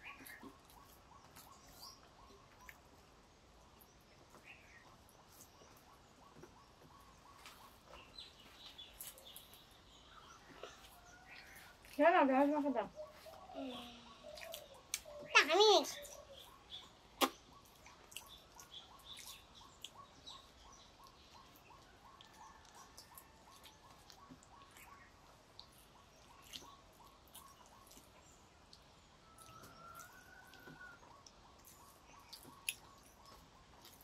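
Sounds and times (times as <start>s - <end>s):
chewing and eating by hand: 0.0s - 12.0s, 14.2s - 15.2s, 16.1s - 34.0s
bird chirping: 0.0s - 34.0s.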